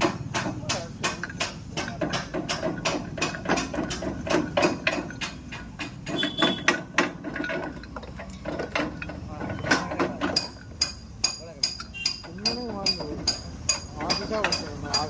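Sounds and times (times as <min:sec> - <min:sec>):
metal clicks and knocks: 0:00.0 - 0:15.0.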